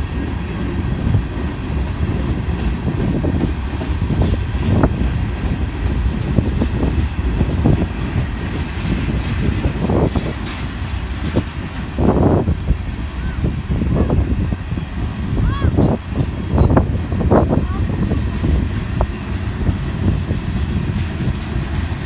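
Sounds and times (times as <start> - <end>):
train rumbling past: 0.0 - 22.0
train wheels knocking on track: 0.0 - 22.0.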